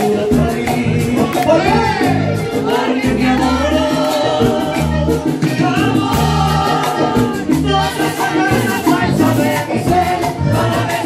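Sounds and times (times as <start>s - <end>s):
live latin band over speakers: 0.0s - 11.0s
person singing: 0.0s - 11.0s.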